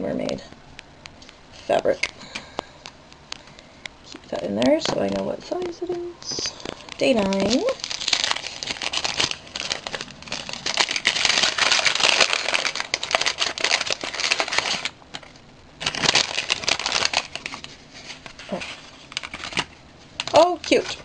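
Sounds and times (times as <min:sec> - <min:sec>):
wrapping crinkling and rustling: 0:01.2 - 0:21.0.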